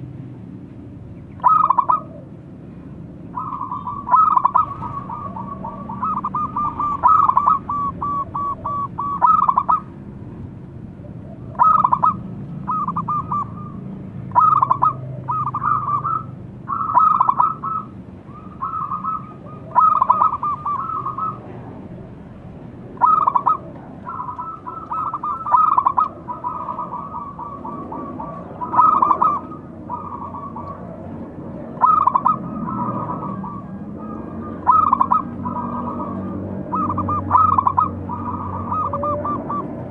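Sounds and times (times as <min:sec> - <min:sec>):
dove cooing: 0:01.3 - 0:02.4, 0:03.2 - 0:10.0, 0:11.0 - 0:39.9.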